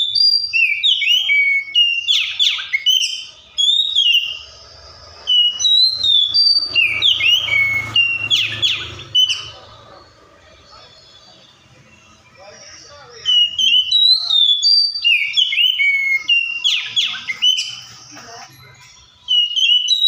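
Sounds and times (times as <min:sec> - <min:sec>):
bird singing whistled notes: 0:00.0 - 0:09.8, 0:10.6 - 0:18.1, 0:19.0 - 0:20.0.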